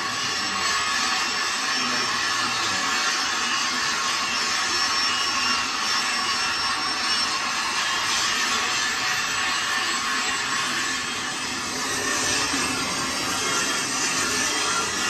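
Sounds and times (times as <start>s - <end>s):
faint high whine: 0.0s - 15.0s
metal lathe whirring: 0.0s - 15.0s.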